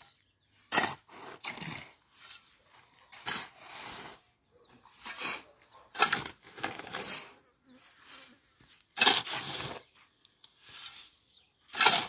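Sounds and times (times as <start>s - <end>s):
shovels scraping gravel: 0.5s - 12.0s.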